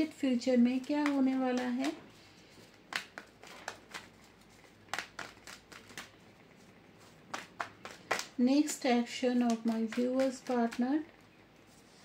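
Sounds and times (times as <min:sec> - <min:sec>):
cards snapping and tapping: 0:00.7 - 0:02.0, 0:02.6 - 0:11.1.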